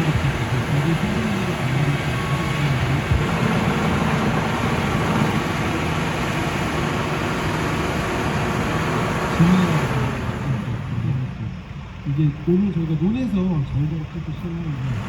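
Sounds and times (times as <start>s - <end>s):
farm machinery engine running: 0.0s - 15.0s.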